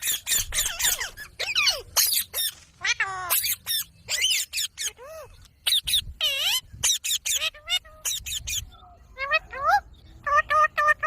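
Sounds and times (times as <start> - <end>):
parrot chirping and squawking: 0.0 - 11.0.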